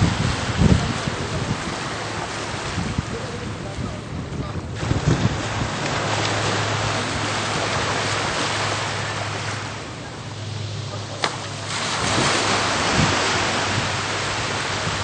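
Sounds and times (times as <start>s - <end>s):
jet ski engine hum: 0.0s - 15.0s
water and wind noise: 0.0s - 15.0s.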